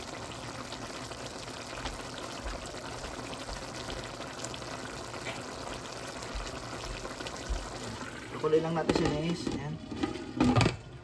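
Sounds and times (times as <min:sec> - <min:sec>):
stew boiling and bubbling: 0:00.0 - 0:11.0.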